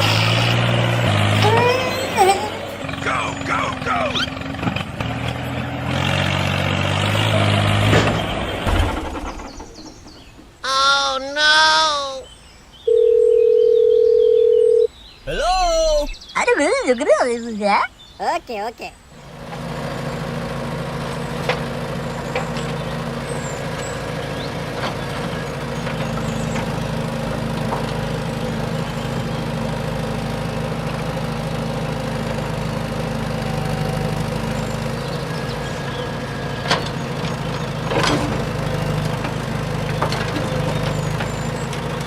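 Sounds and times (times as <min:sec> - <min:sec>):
mini tractor engine humming: 0:00.0 - 0:42.0.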